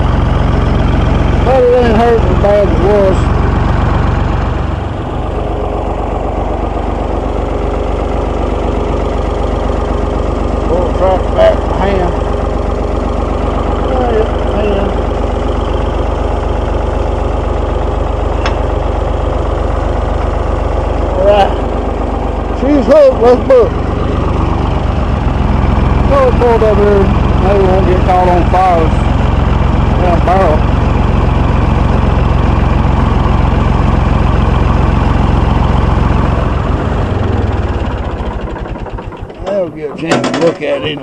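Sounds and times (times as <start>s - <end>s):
tractor engine idling: 0.0s - 41.0s.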